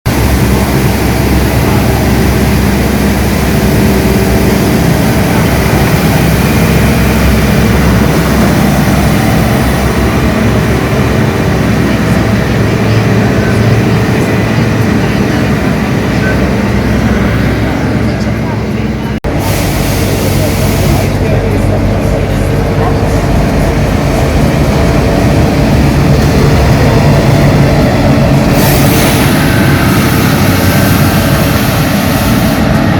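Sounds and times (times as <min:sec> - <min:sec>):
street sweeper brushes and engine: 0:00.1 - 0:32.9.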